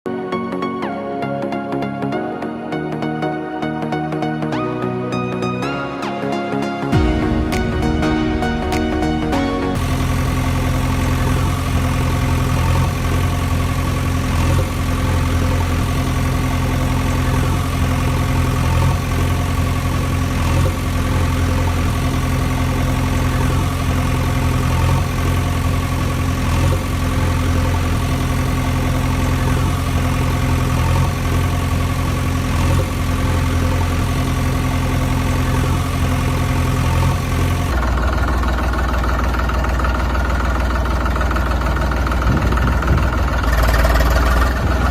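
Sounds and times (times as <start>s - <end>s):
tractor engine idling: 6.9s - 44.9s.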